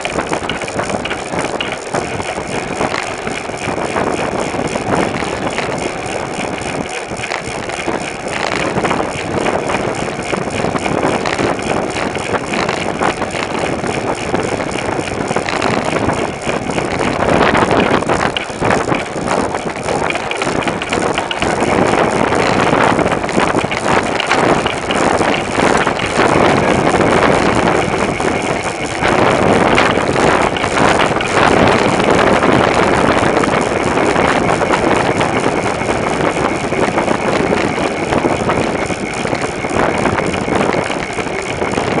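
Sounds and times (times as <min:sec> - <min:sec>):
bicycle riding noise: 0:00.0 - 0:42.0
wind rushing over microphone: 0:00.0 - 0:42.0.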